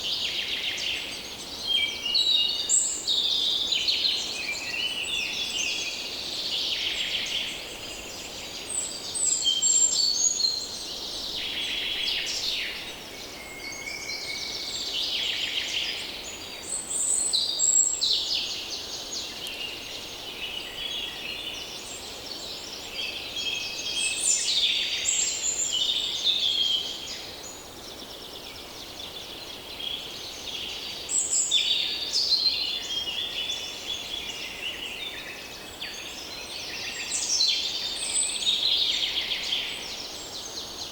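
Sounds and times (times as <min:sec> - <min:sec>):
faint background hiss: 0:00.0 - 0:40.9
many birds singing and calling: 0:00.0 - 0:40.9.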